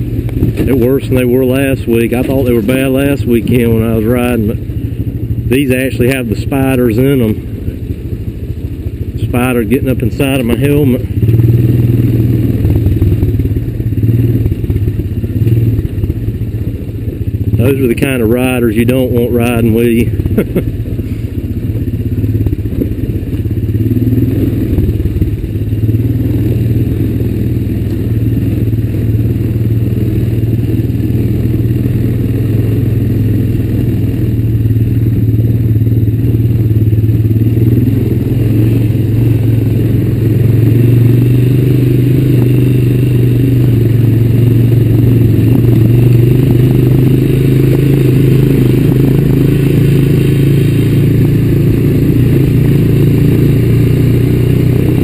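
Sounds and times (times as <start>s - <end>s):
quad bike engine under throttle: 0.0s - 55.0s.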